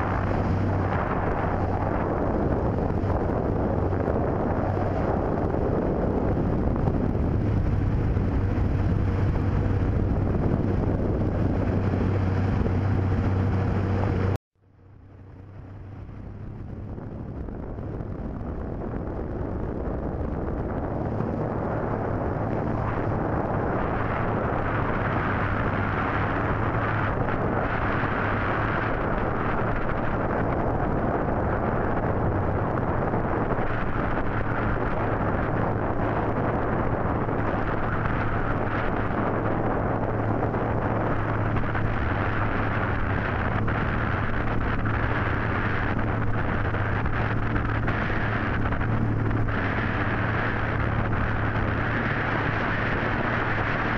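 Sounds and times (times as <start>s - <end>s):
boat motor humming: 0.0s - 53.9s
wind on microphone: 0.0s - 53.9s.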